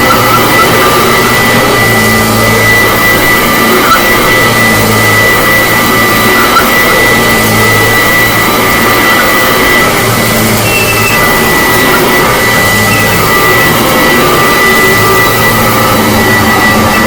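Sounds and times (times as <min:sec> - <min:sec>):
upright vacuum cleaner running: 0:00.0 - 0:17.0.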